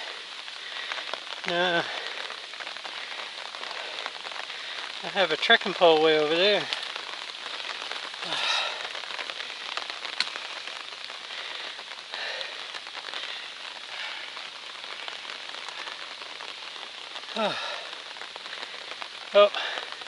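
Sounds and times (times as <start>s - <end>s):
rain falling: 0.0s - 20.0s
drops ticking: 0.6s - 20.0s.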